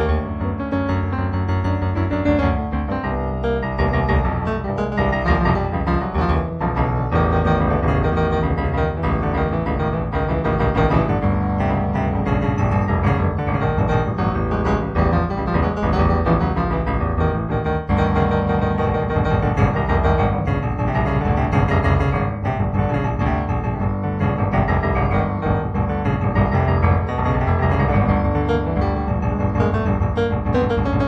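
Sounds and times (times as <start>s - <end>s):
solo piano music: 0.0s - 31.0s.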